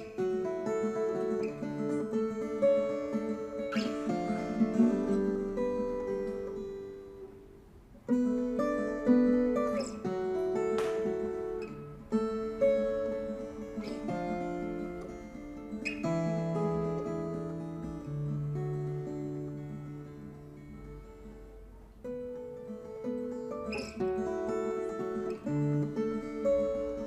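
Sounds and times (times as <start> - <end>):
guitar plucked notes and chords: 0.0 - 27.0.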